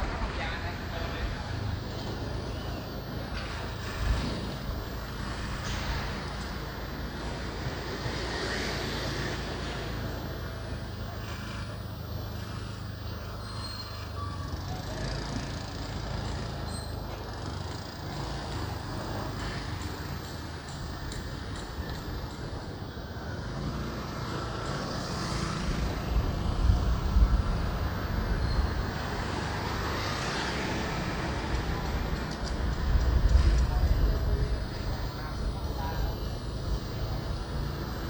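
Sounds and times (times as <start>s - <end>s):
motorbike engine rumble: 0.0s - 38.0s
road traffic: 0.0s - 38.0s.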